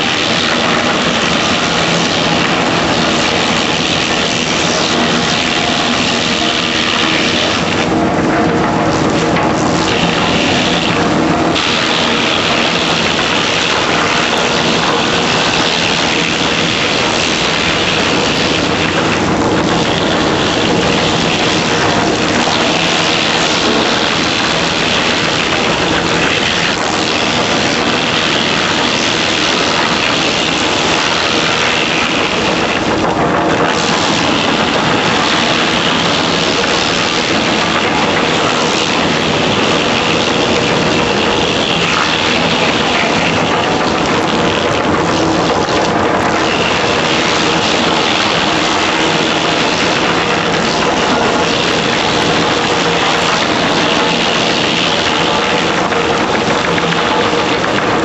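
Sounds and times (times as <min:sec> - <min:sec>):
engine drone: 0:00.0 - 0:58.0
wood chipper running: 0:00.0 - 0:58.0.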